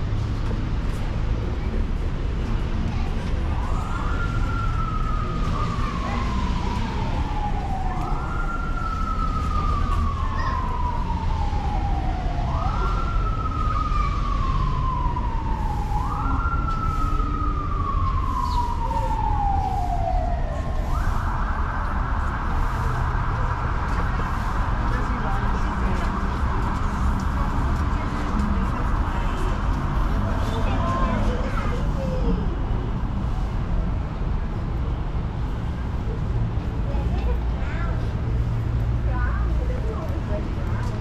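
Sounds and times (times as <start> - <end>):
emergency siren wailing: 3.2 - 41.0.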